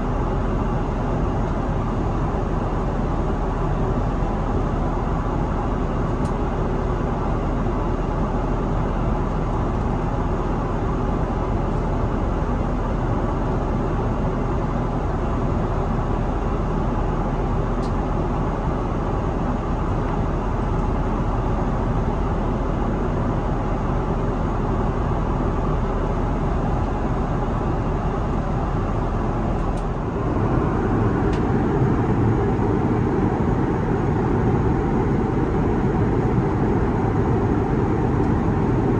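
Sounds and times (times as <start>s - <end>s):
airplane cabin airflow and engine drone: 0.0s - 38.9s.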